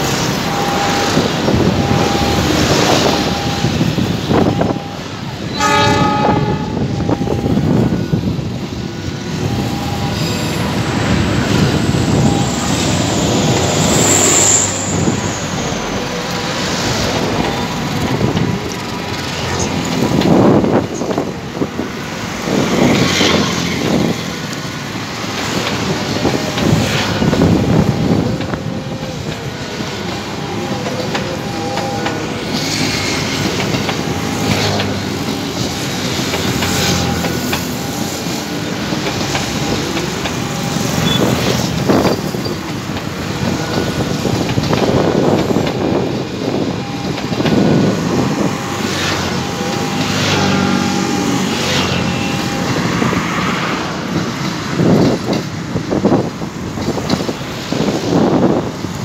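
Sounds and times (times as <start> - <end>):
train rumbling past: 0.0 - 59.0.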